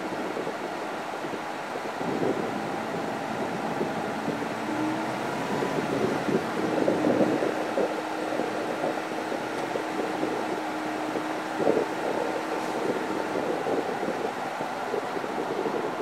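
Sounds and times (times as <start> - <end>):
constant low hum: 0.0 - 16.0
road and vehicle noise: 0.0 - 16.0
wind buffeting microphone: 0.0 - 16.0.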